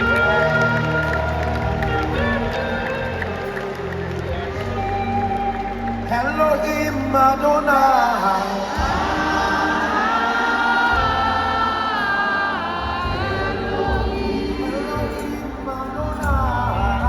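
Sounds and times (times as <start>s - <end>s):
choir singing gospel song: 0.0s - 17.0s
low instrumental accompaniment: 0.0s - 17.0s.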